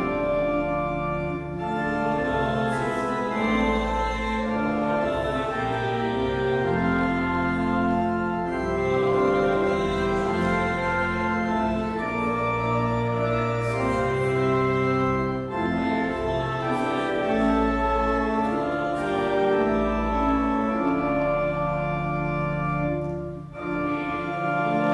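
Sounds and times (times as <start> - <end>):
organ playing a hymn: 0.0 - 24.9.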